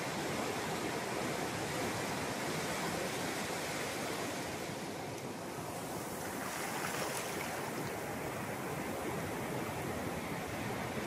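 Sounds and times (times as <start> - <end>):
waves breaking on sandy beach: 0.0 - 11.0.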